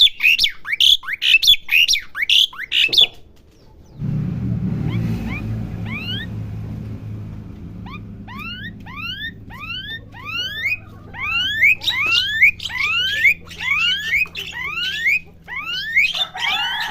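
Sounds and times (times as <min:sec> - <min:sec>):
starling whistling: 0:00.0 - 0:04.1, 0:04.8 - 0:16.9
steady low hum: 0:02.9 - 0:16.9.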